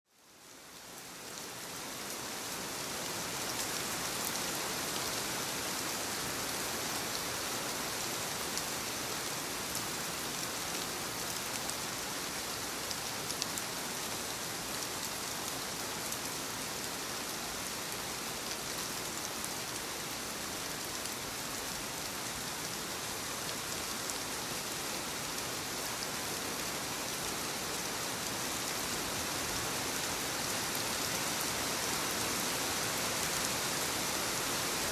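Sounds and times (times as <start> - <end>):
rain pattering on a surface: 0.1 - 34.9.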